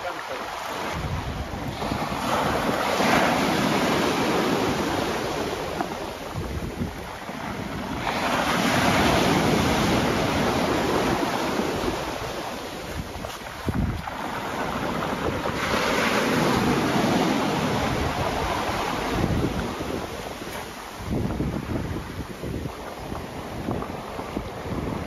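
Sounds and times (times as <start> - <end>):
waves breaking on pebbles: 0.0 - 25.0
wind buffeting microphone: 0.0 - 25.0.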